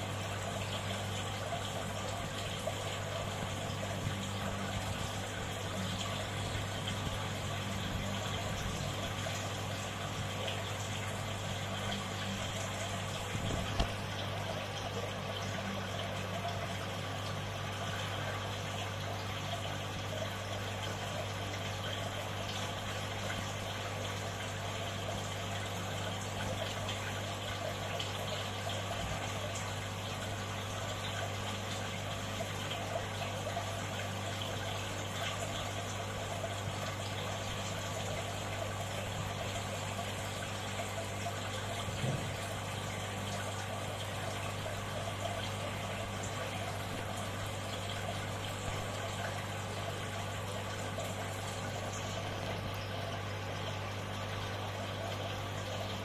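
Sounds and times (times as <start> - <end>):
aquarium pump humming: 0.0 - 56.0.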